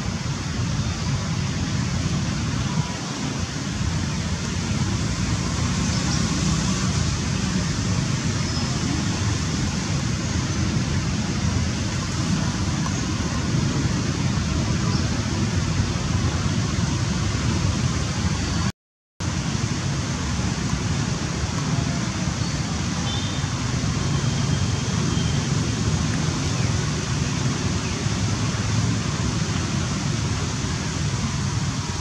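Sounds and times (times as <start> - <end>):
steady rushing noise: 0.0 - 32.0.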